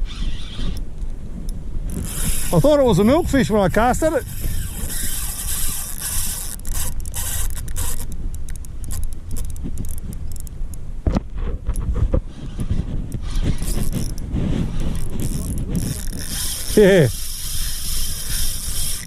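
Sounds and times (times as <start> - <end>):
handling noise scraping and clicking: 0.0 - 19.0
wind buffeting microphone: 0.0 - 19.0.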